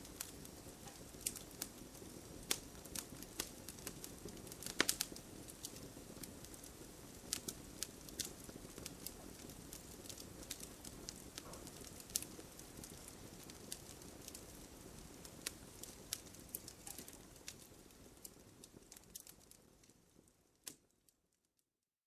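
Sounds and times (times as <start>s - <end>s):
campfire crackling and popping: 0.0s - 21.2s.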